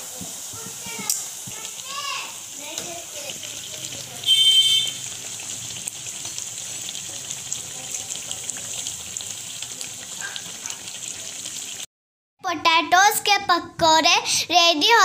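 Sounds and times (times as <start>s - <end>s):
pakoras deep-frying in hot oil: 0.0s - 15.0s.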